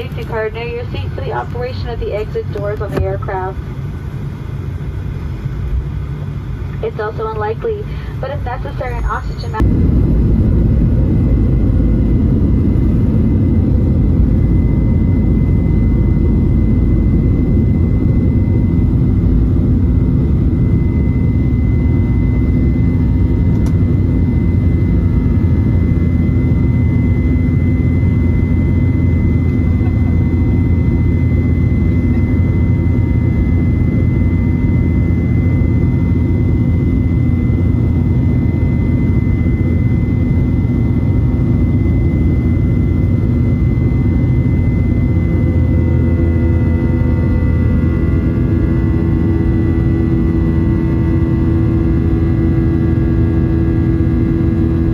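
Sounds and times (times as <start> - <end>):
jet cabin low rumble: 0.0 - 54.9
thin high engine whine: 0.0 - 54.9.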